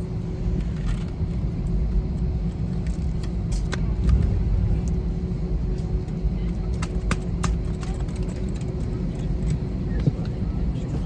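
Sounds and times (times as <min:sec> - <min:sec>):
airliner engines rumbling: 0:00.0 - 0:11.0.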